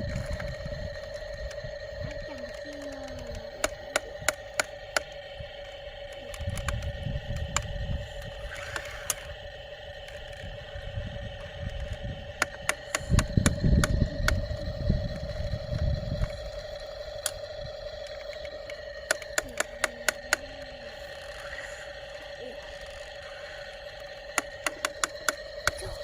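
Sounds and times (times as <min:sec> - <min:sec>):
engine humming: 0:00.0 - 0:26.0
loud low rumble: 0:00.0 - 0:26.0.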